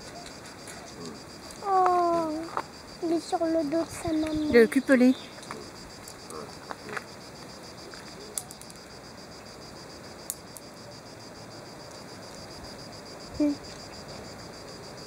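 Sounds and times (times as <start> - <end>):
pulsing insect chorus: 0.0 - 15.0.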